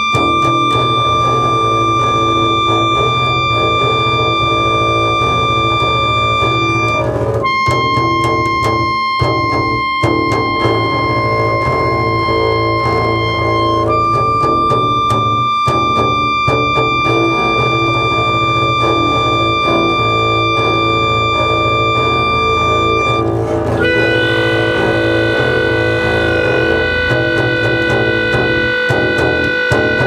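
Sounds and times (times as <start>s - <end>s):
clarinet high note: 0.0s - 30.0s
low sustained double bass: 0.0s - 30.0s.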